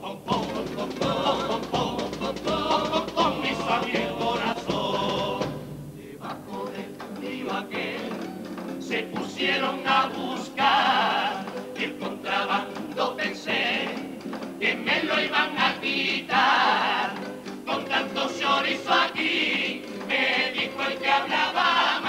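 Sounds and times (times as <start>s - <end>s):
male choir singing: 0.0s - 22.0s.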